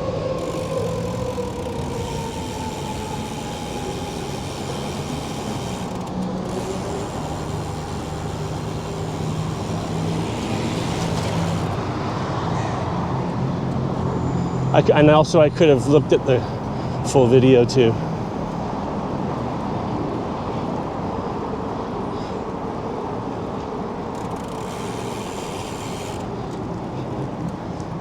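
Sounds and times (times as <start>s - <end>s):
passing vehicle whine: 0.0s - 28.0s
road traffic noise: 0.0s - 28.0s.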